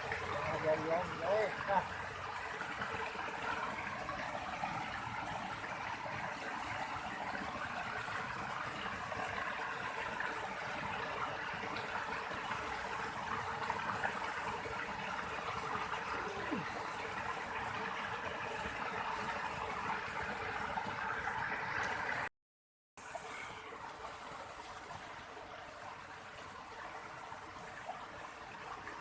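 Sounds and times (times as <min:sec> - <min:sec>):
stream water flowing: 0:00.0 - 0:22.3, 0:23.0 - 0:29.0.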